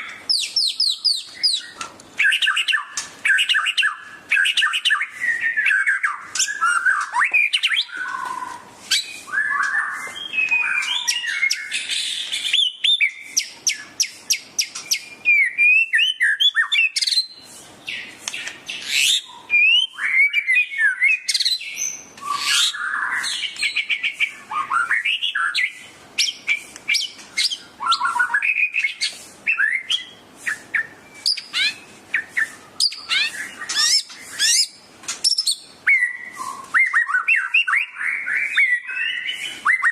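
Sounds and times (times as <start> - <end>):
songbird singing whistled song: 0.0 - 39.9.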